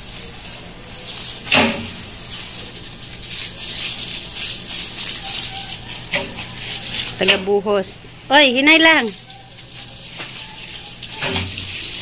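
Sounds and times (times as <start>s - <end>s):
hose water spraying on dirt: 0.0s - 12.0s.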